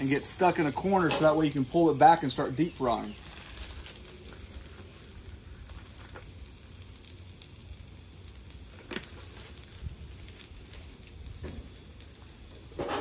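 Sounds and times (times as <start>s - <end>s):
fries sizzling on a griddle: 0.0s - 13.0s.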